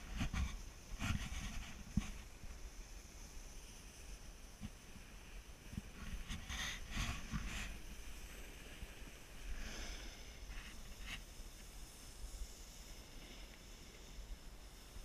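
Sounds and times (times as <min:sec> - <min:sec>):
snowboard edge scraping snow: 0:00.0 - 0:14.3
wind rumble on microphone: 0:00.0 - 0:15.0.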